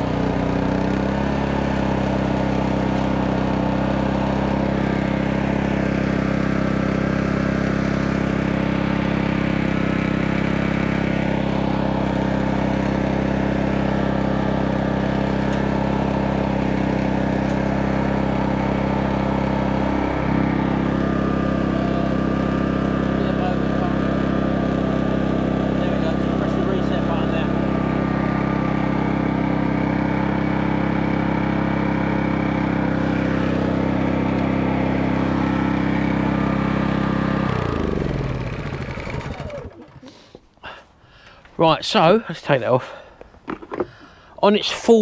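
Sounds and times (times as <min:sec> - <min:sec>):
generator engine running: 0:00.0 - 0:42.6.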